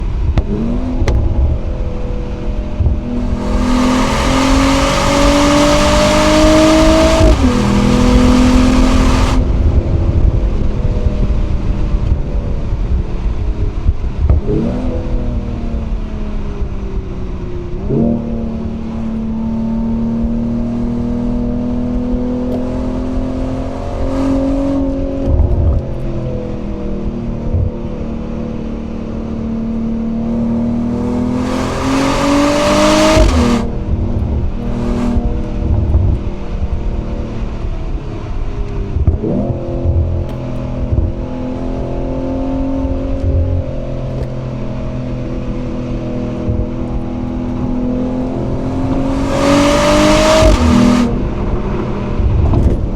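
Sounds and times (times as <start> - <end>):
car engine exhaust while driving: 0.0 - 52.9.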